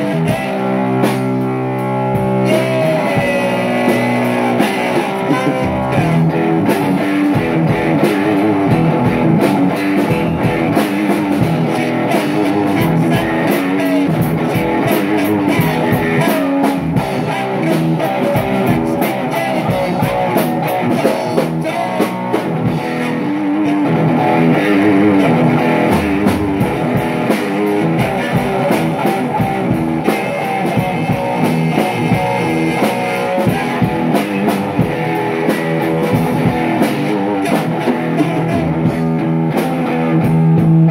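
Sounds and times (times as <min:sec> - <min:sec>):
drums: 0:00.0 - 0:40.9
rock guitar: 0:00.0 - 0:40.9.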